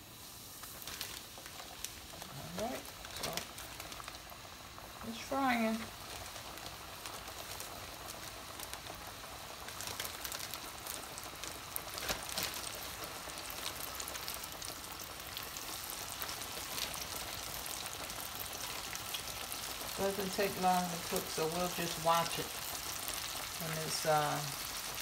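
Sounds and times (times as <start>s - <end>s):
fish deep-frying in oil: 0.0s - 25.0s.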